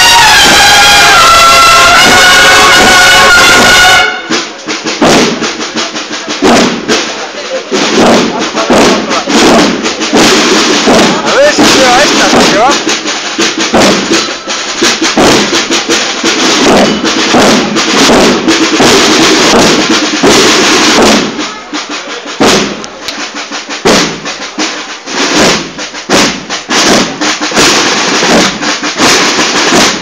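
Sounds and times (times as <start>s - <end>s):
snare and bass drums marching: 0.0s - 30.0s.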